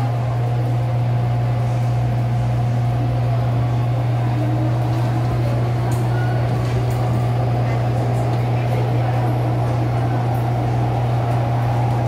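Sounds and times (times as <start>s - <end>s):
train cabin hum: 0.0s - 12.0s
train running noise: 0.0s - 12.0s.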